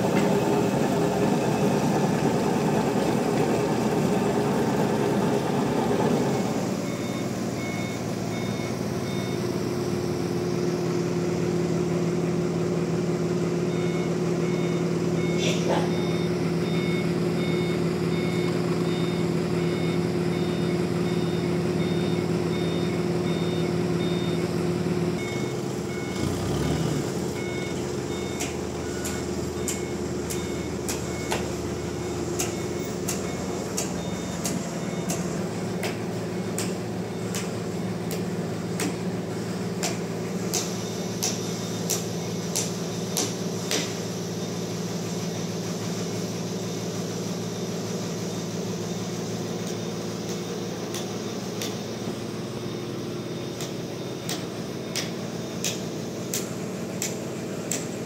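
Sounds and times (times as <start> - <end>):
reversing beep: 0.0 - 11.7, 13.3 - 58.0
heavy machine running: 0.0 - 58.0.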